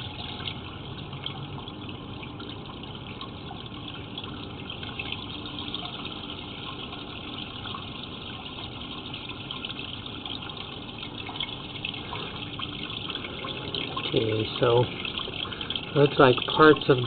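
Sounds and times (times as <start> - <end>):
faint hum: 0.0 - 17.0
running water rushing: 0.0 - 17.0.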